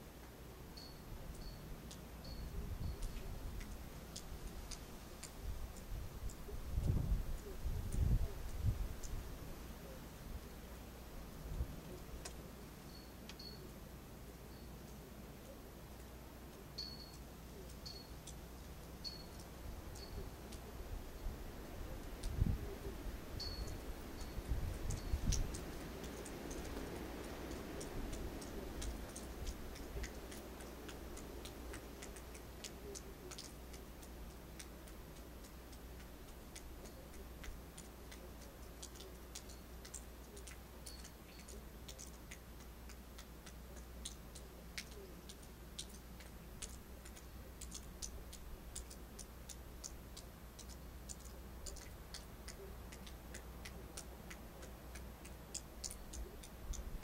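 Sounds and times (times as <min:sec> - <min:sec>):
faint scattered ticks and clicks: 0:00.0 - 0:57.0
soft wind rush: 0:00.0 - 0:57.0.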